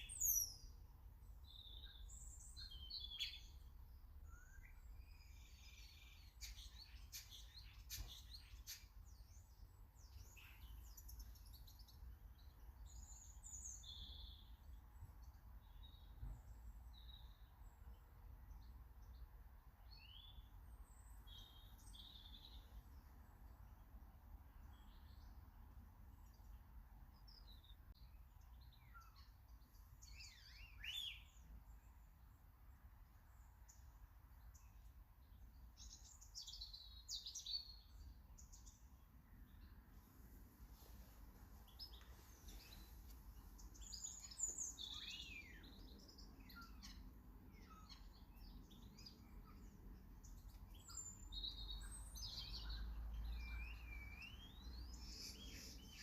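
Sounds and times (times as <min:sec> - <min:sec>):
low steady background rumble: 0:00.0 - 0:56.0
songbirds chirping: 0:00.0 - 0:56.0.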